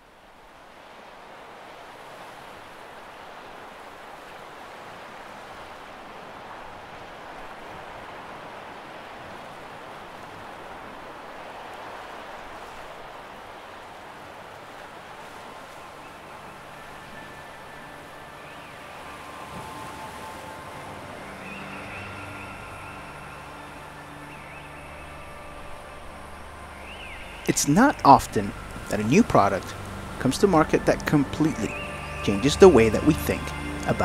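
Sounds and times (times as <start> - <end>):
rough ocean waves and spray: 0.0 - 34.0.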